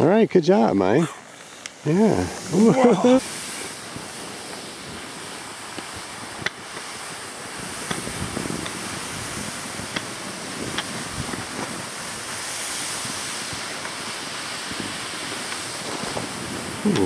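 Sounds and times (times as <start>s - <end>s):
skis sliding over snow: 0.2s - 17.0s
wind noise on microphone: 1.9s - 17.0s.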